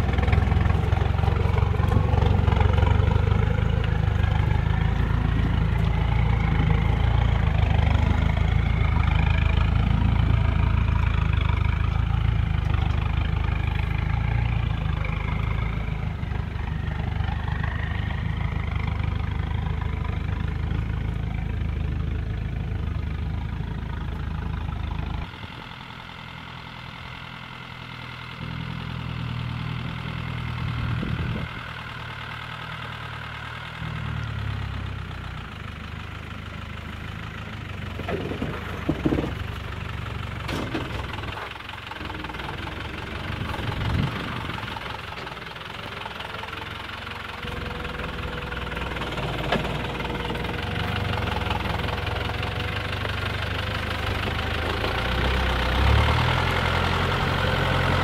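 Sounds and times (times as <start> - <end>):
off-road vehicle engine at low revs: 0.0 - 58.0.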